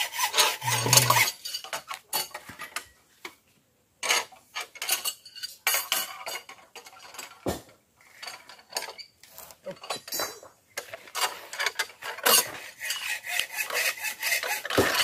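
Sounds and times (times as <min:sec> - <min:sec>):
steel bars clinking and scraping: 0:00.2 - 0:02.9, 0:04.0 - 0:07.4, 0:08.0 - 0:15.0.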